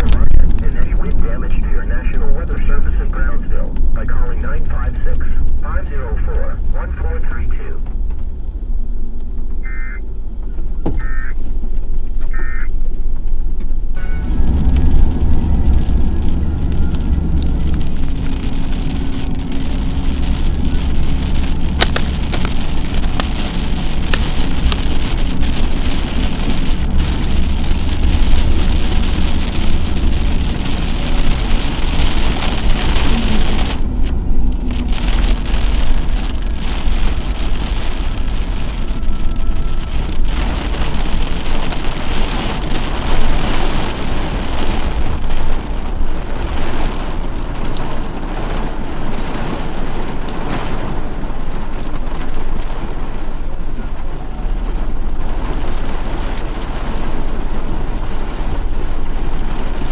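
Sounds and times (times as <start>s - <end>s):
rain on car windshield: 0.0s - 59.9s
road and engine rumble: 0.0s - 59.9s.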